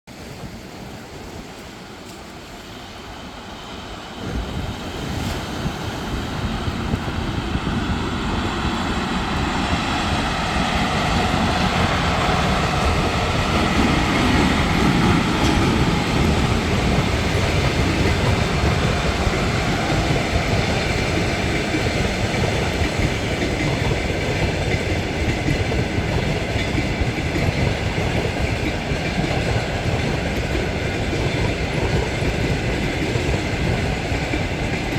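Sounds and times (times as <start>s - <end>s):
train passing: 0.1s - 34.9s.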